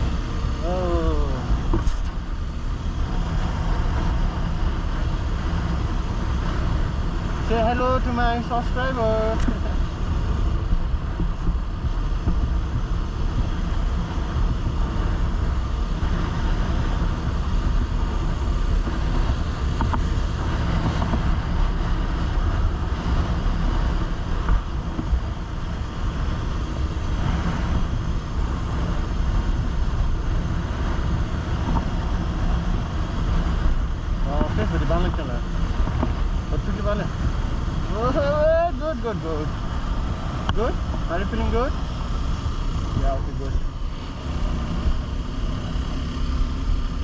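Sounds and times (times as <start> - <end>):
road noise: 0.0 - 47.0
wind buffeting microphone: 0.0 - 47.0.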